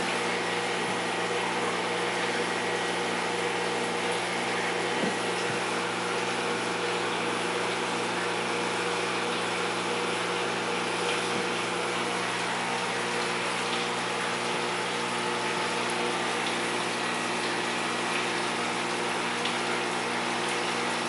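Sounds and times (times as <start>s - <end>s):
pump hum: 0.0s - 21.0s.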